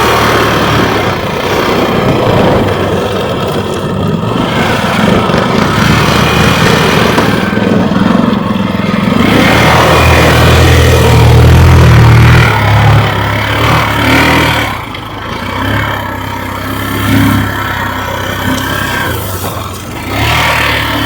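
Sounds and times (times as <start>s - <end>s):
quad bike engine revving: 0.0s - 21.0s.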